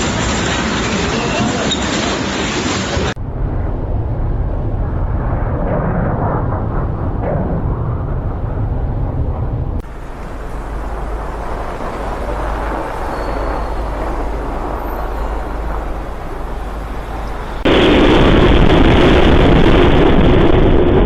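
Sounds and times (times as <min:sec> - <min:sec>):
vehicle rumble: 0:00.0 - 0:18.6
rushing noise: 0:00.0 - 0:21.0.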